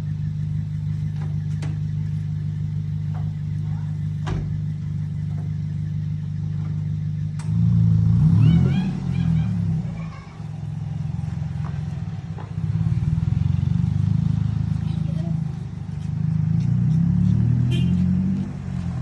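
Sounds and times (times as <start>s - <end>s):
vehicle engine driving off: 0.0s - 19.0s.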